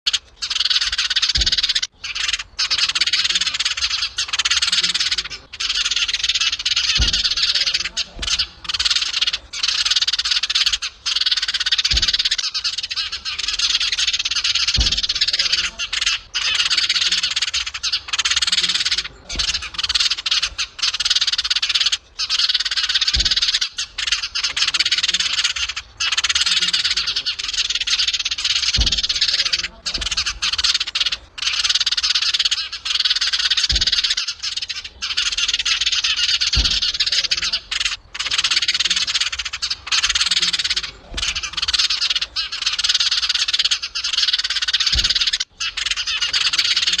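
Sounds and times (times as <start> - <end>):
sparrows chirping: 0.0 - 47.0
low thumps: 0.9 - 42.4, 44.8 - 45.6.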